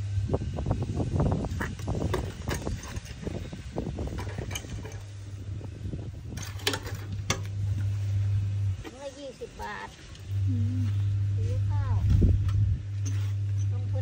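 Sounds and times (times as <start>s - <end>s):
steady low hum: 0.0s - 14.0s
dry soil rustling and scraping: 1.4s - 14.0s.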